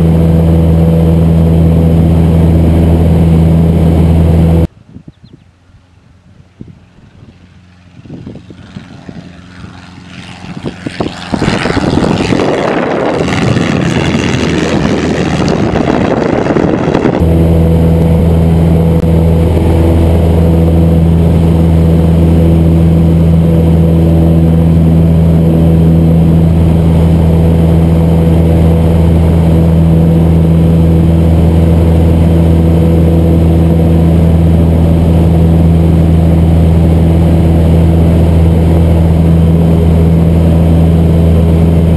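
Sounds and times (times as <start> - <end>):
aircraft engine and propeller drone: 0.0 - 41.9.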